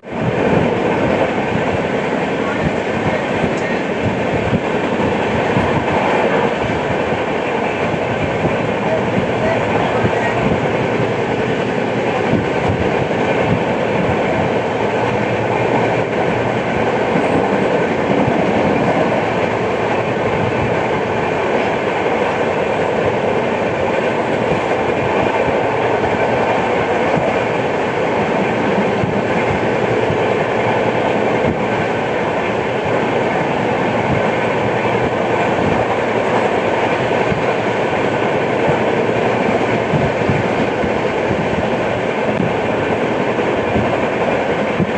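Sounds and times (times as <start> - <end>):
clickety-clack of rail joints: 0.0 - 44.9
train wheels rumbling on track: 0.0 - 44.9.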